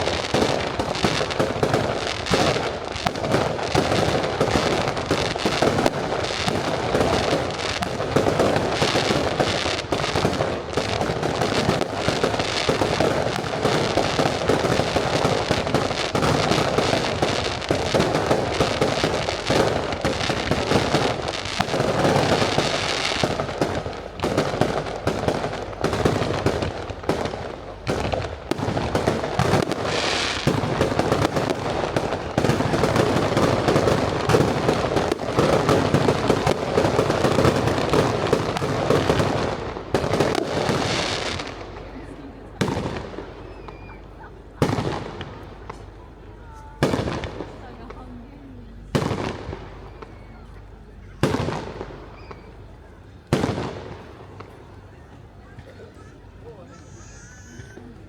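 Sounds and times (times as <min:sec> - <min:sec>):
fireworks crackle: 0:00.0 - 0:57.8.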